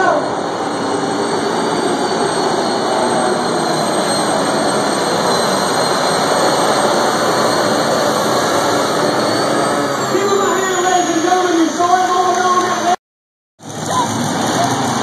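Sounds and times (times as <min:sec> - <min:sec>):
engine at full throttle: 0:00.0 - 0:13.0, 0:13.6 - 0:15.0.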